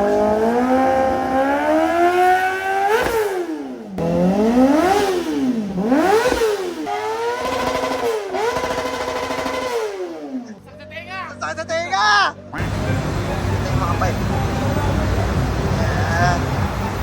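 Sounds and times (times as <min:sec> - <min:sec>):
motorcycle engine revving: 0:00.0 - 0:10.6, 0:12.6 - 0:17.0.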